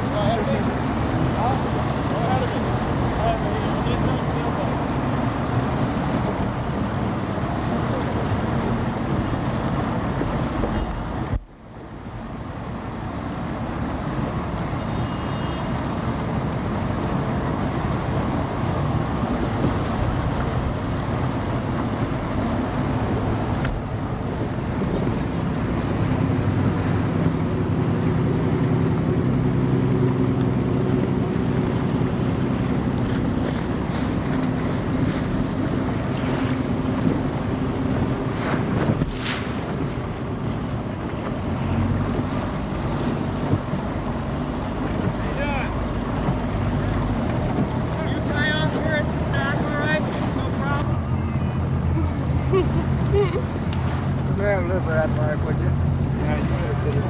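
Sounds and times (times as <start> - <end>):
motorboat engine hum: 0.0 - 57.0
wind noise on microphone: 4.8 - 54.3.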